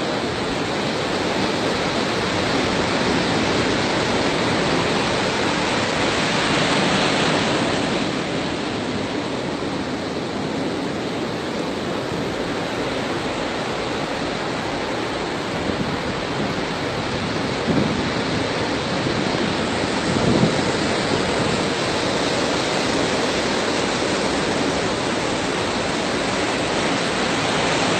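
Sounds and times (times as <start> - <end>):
sea waves breaking: 0.0 - 27.9
wind on microphone: 0.0 - 27.9.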